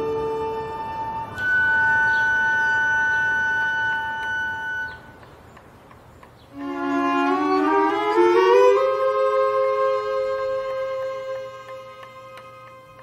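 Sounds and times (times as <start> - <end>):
woodwinds and strings chord: 0.0 - 5.2, 6.6 - 13.0.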